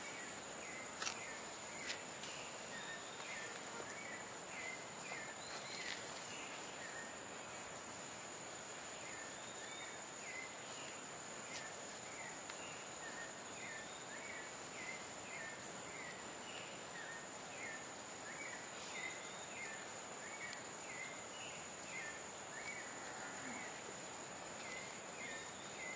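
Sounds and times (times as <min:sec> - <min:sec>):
steady high hiss: 0:00.0 - 0:25.9.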